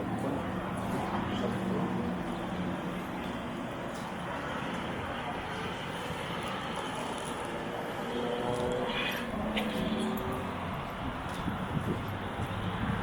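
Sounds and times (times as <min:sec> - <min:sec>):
city traffic rush: 0:00.0 - 0:13.0.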